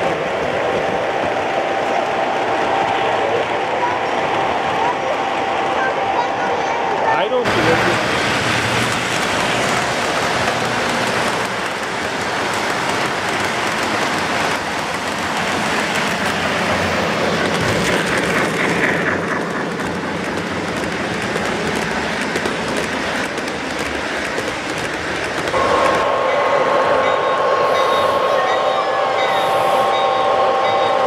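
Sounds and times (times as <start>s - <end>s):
model train wheels on rails: 0.0s - 31.0s.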